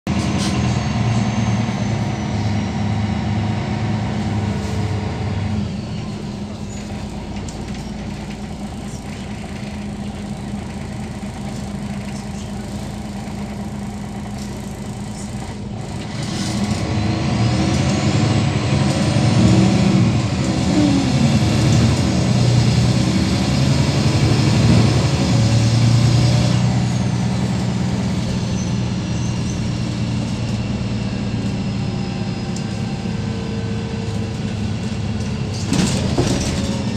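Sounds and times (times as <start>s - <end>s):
bus engine hum: 0.0s - 36.9s.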